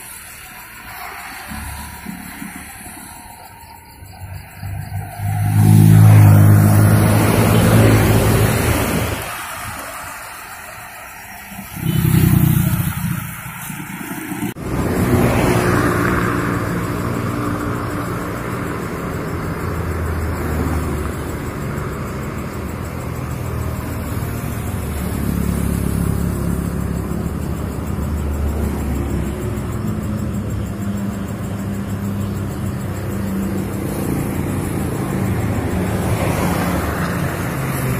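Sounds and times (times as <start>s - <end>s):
rumble of traffic on bridge: 0.0s - 37.9s
vehicle passing loudly: 0.0s - 37.9s.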